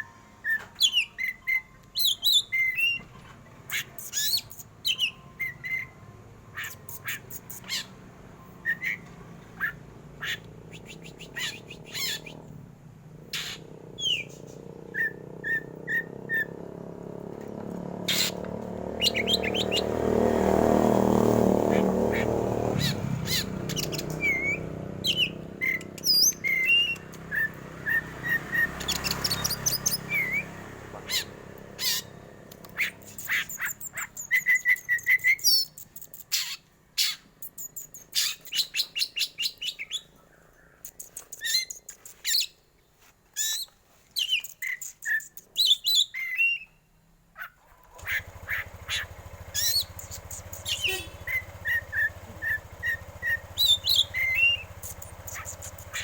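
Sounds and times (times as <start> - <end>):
bird singing whistles and trills: 0.0 - 3.1, 3.7 - 6.0, 6.6 - 8.0, 8.6 - 12.4, 13.4 - 16.6, 18.1 - 20.0, 22.2 - 32.1, 32.7 - 40.1, 40.8 - 42.6, 43.4 - 46.9, 48.5 - 56.0.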